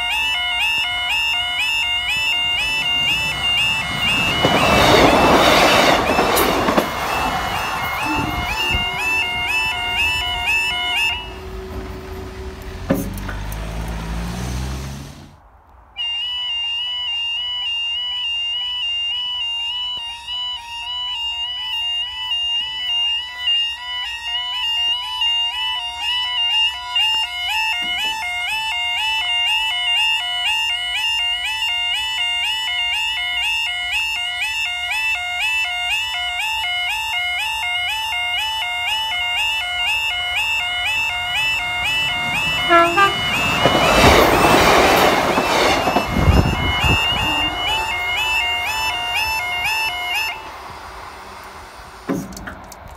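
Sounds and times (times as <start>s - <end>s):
warbling two-tone crossing alarm: 0.0s - 12.4s, 16.0s - 52.0s.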